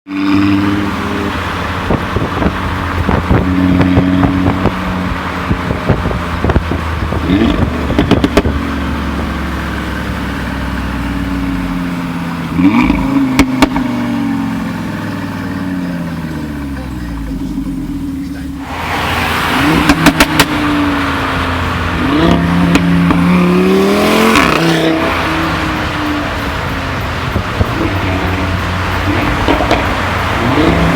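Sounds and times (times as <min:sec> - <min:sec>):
car engine revving: 0:00.1 - 0:30.9
exhaust crackles and pops: 0:00.1 - 0:30.9.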